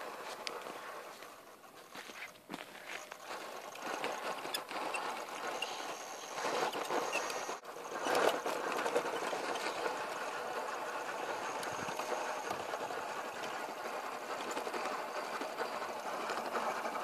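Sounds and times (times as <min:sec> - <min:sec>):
small electric motor whirring: 0:02.9 - 0:17.0.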